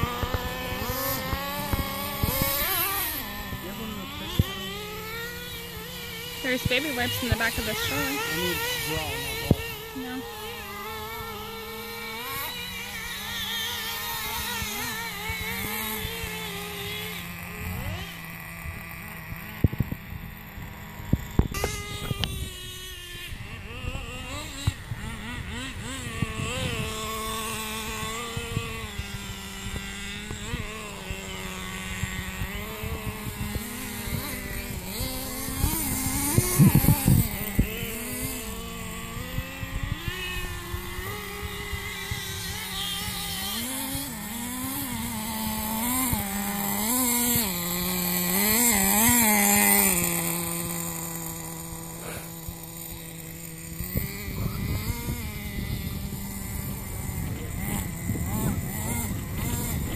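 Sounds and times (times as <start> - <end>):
toy car motor revving: 0.0 - 59.9.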